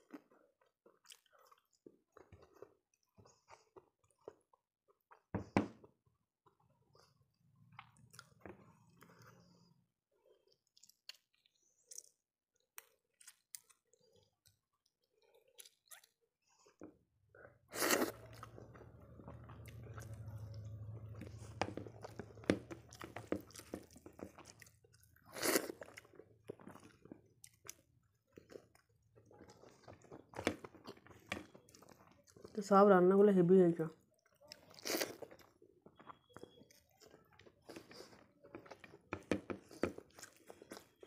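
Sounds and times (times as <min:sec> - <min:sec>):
chewing and crunching fried food: 0:00.0 - 0:41.0.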